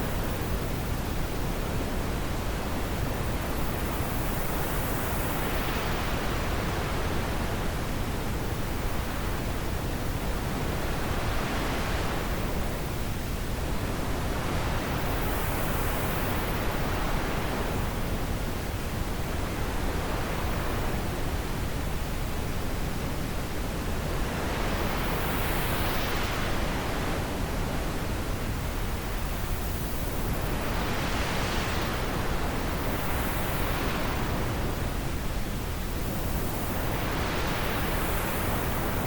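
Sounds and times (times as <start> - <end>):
wind blowing in gusts: 0.0 - 39.0.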